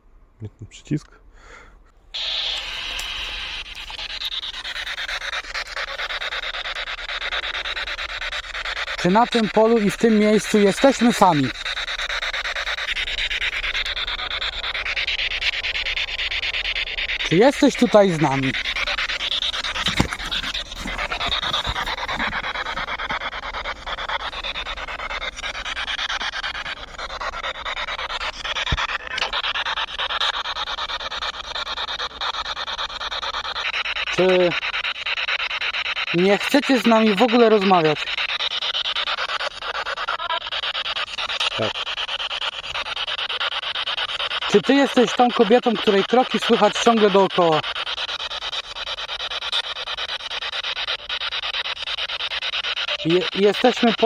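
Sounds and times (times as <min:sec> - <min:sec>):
pulsing radio static: 0:02.2 - 0:32.4, 0:33.0 - 0:54.0.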